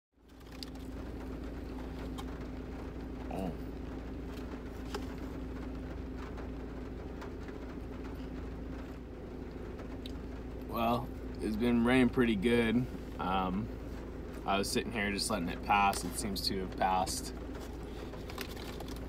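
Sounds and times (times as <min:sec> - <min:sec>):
truck engine idling hum: 0:00.2 - 0:19.0.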